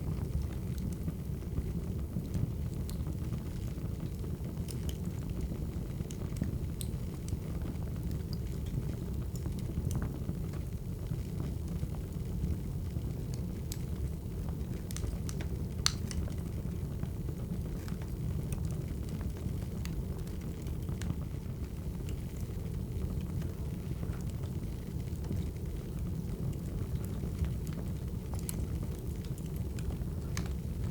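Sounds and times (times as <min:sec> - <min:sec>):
wood fire crackling: 0:00.0 - 0:30.9.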